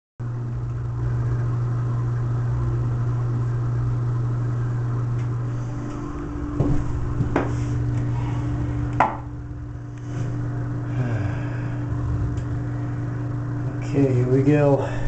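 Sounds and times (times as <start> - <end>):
low motor hum: 0.2 - 15.0.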